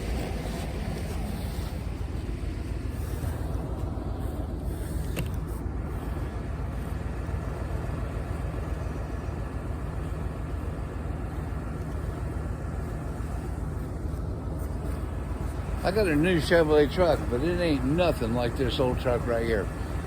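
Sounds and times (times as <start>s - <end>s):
road noise: 0.0s - 20.0s
truck engine rumble: 0.0s - 20.0s.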